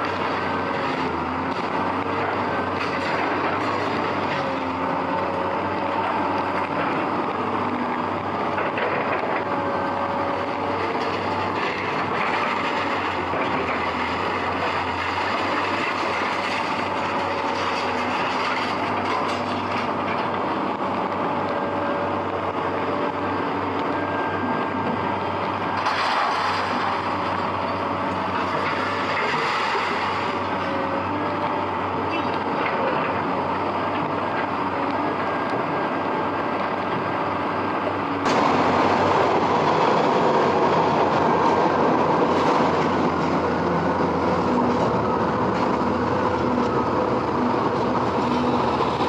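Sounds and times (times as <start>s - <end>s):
heavy machinery din: 0.0s - 49.0s.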